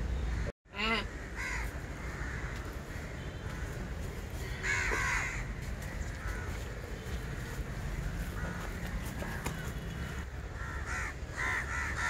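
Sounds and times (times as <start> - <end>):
crows cawing: 0.3 - 3.8, 4.4 - 12.0.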